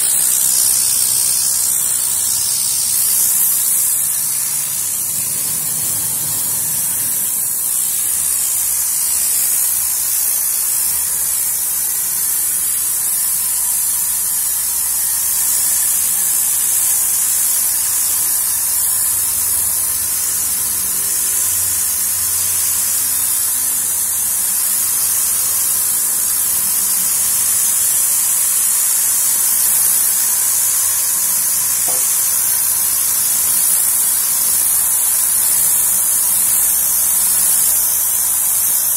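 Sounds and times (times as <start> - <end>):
compressed air gun hissing: 0.0 - 38.9.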